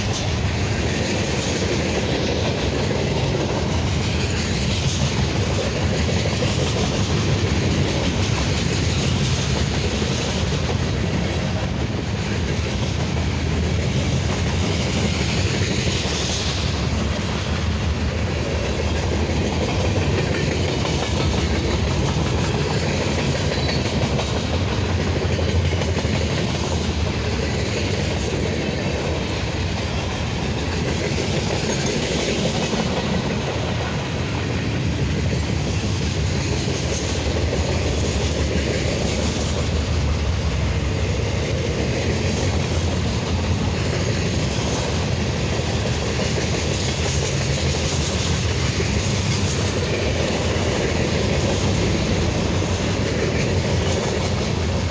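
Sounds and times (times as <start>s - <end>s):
steel wheels rumbling on rails: 0.0s - 54.9s.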